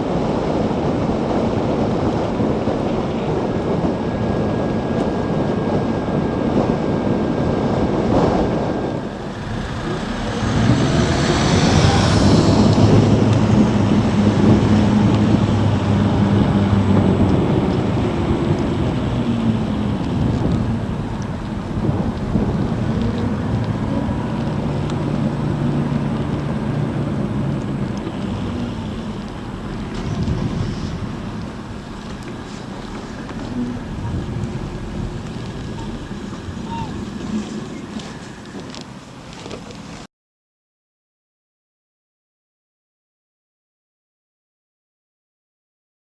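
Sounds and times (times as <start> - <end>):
electric motorcycle hum: 0.0 - 40.1
road noise: 0.0 - 40.1
wind rumble: 0.0 - 40.1.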